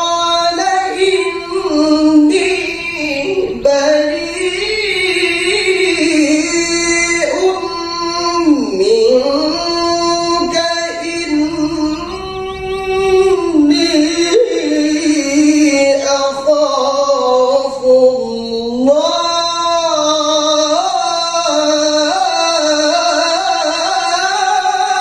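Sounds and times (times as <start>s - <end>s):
man reciting melodically: 0.0s - 25.0s.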